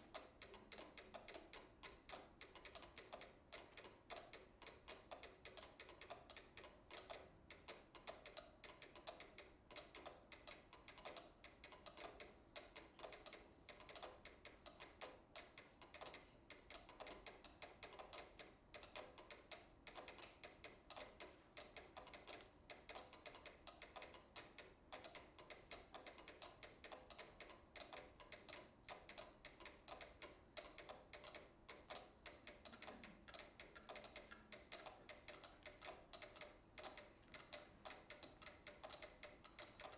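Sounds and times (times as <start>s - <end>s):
mechanical metronomes ticking: 0.0s - 39.9s.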